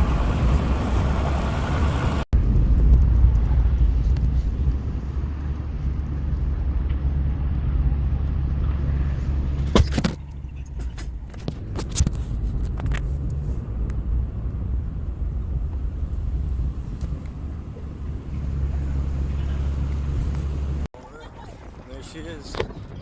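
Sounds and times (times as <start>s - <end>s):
vehicle engine droning: 0.0s - 20.9s.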